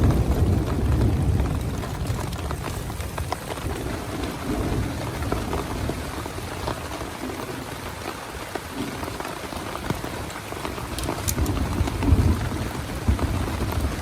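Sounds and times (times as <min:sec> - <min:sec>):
heavy rain on a tent: 0:00.0 - 0:14.0
sharp raindrop hits: 0:00.0 - 0:14.0.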